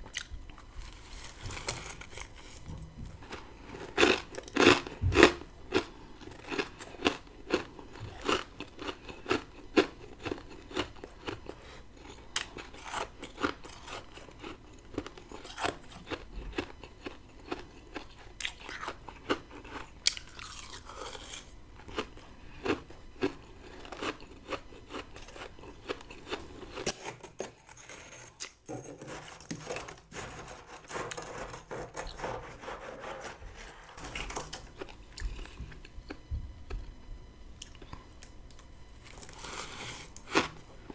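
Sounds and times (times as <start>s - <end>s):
chewing crunchy frost: 0.0s - 31.5s, 33.3s - 37.0s, 37.6s - 40.9s.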